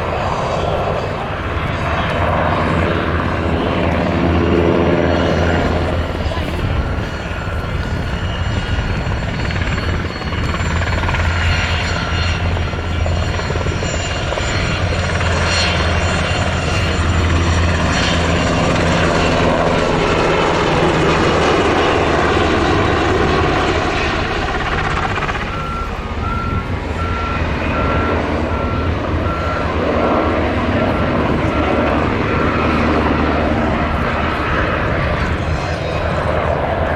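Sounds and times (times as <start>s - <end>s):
helicopter rotor and engine drone: 0.0s - 36.9s.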